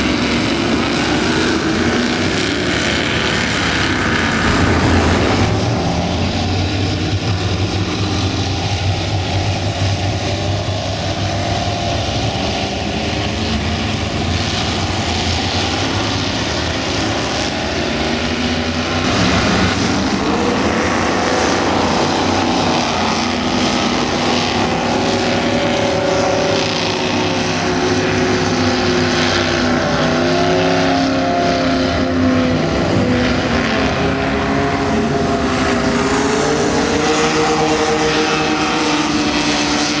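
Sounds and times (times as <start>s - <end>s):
powerboat engines running loud: 0.0s - 40.0s.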